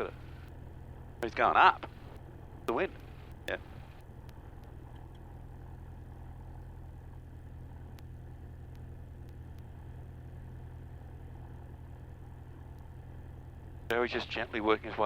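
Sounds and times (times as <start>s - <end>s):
aircraft engine idling: 0.0s - 15.0s.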